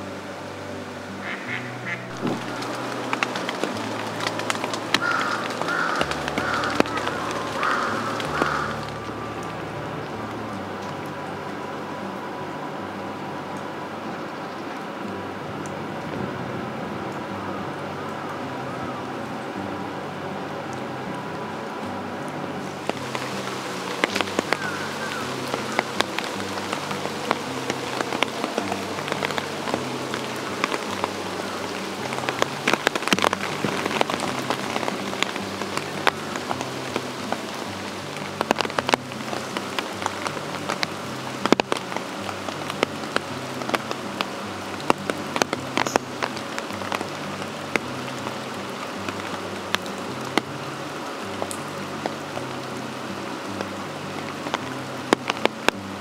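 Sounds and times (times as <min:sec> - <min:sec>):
quiet background music: 0:00.0 - 0:56.0
rain pattering: 0:00.0 - 0:56.0.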